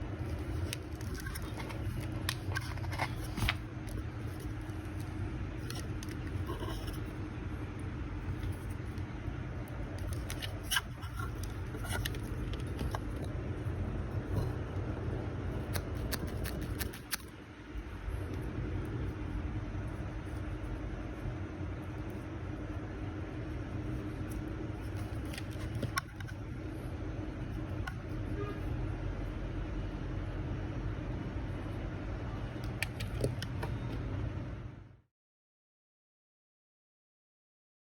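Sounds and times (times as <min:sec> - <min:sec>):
steady low hum: 0:00.0 - 0:35.1.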